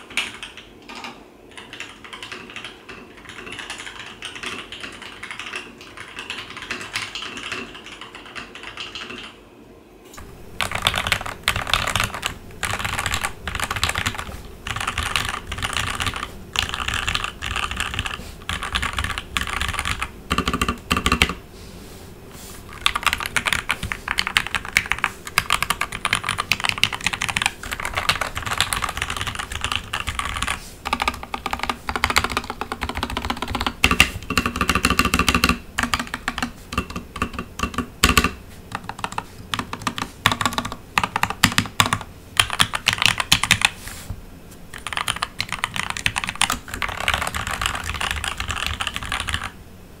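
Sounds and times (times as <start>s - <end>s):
mechanical keyboard typing: 0.0s - 9.4s, 10.4s - 21.4s, 22.6s - 43.8s, 44.7s - 49.6s.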